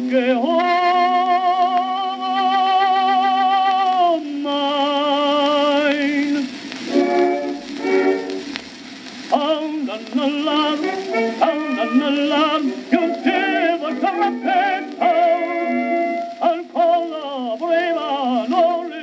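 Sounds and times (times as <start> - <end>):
tenor singing with vibrato: 0.0 - 8.6, 9.2 - 19.0.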